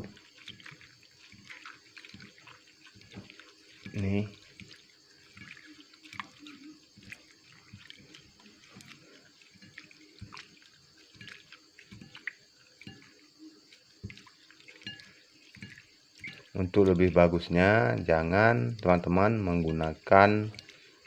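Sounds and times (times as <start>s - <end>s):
hands squeezing wet leaves: 0.0s - 21.0s
water splashes and drips: 0.0s - 21.0s.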